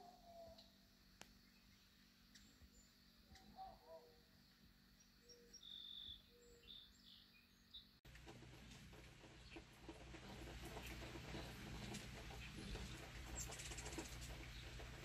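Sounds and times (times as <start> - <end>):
distant birds calling: 0.0 - 15.0.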